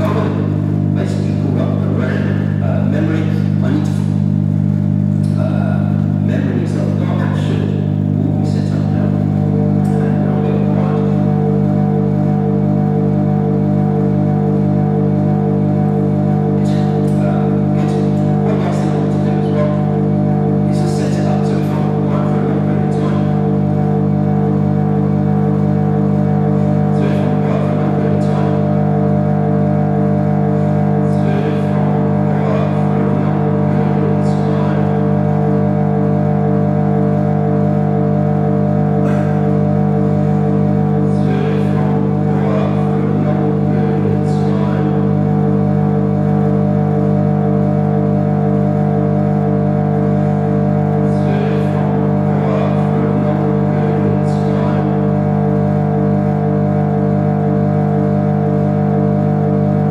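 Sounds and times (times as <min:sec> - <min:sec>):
low electronic drone: 0:00.0 - 0:59.9.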